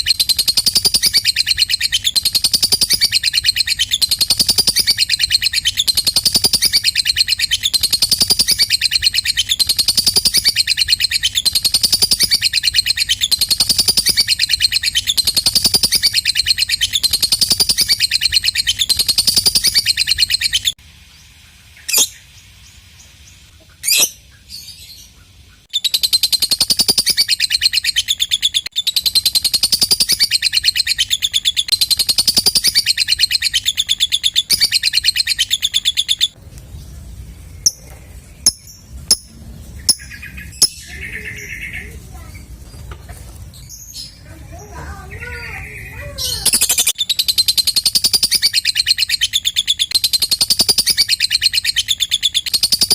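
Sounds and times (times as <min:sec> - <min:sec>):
bird shrill chattering song: 0:00.0 - 0:20.8, 0:21.8 - 0:22.4, 0:23.0 - 0:36.4, 0:37.5 - 0:42.9, 0:43.6 - 0:52.9.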